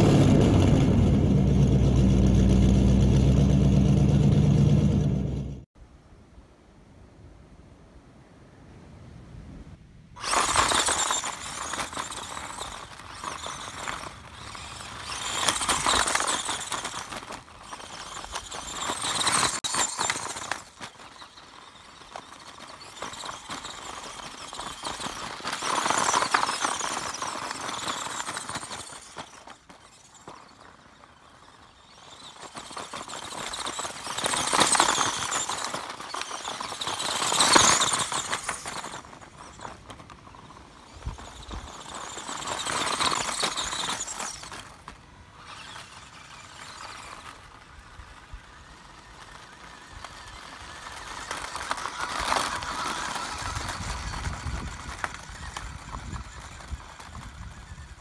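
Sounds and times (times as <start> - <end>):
tyres crunching on gravel: 10.2 - 58.0.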